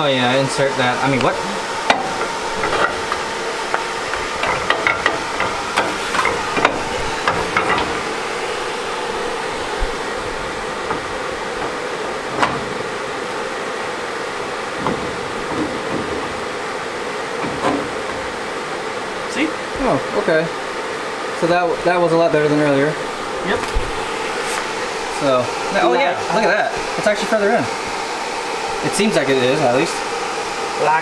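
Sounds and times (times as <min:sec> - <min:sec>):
steady blower-like hiss: 0:00.0 - 0:31.0.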